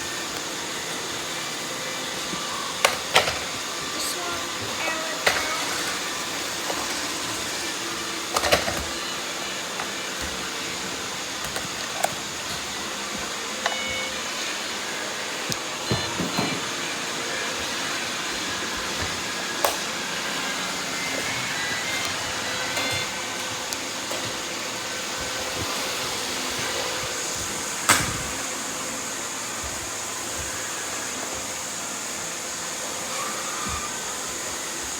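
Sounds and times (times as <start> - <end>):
robot vacuum motor and brush: 0.0 - 34.9.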